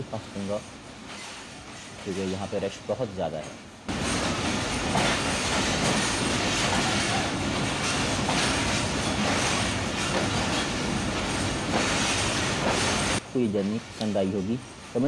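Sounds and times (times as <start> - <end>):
train wheels running on track: 0.0 - 15.0.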